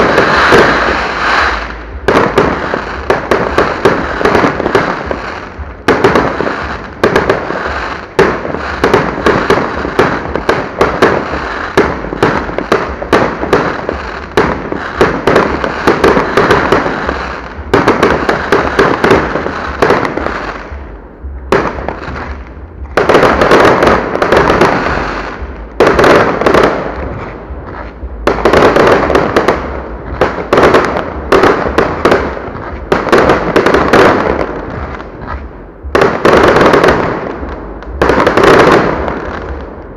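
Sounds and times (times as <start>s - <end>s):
firework crackle: 0.0s - 39.9s
fireworks bursting: 0.0s - 39.9s.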